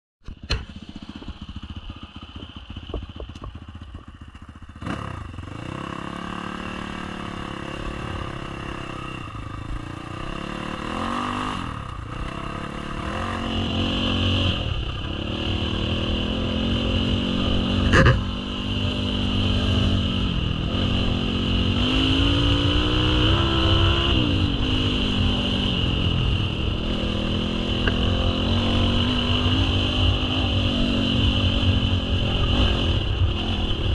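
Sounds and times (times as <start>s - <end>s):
dirt bike engine revving: 4.6s - 33.9s.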